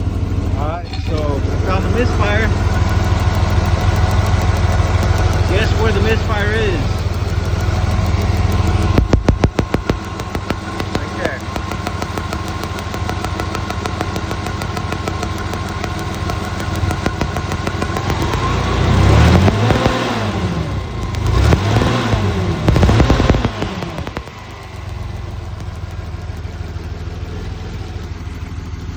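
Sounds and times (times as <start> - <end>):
engine revving: 0.0 - 28.9
forklift engine idling unevenly: 0.0 - 28.9.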